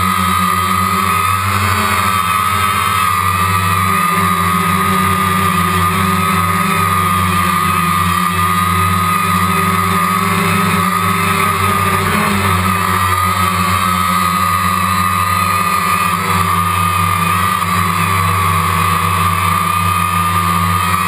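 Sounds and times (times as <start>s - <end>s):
drone propellers buzzing whine: 0.0s - 21.0s.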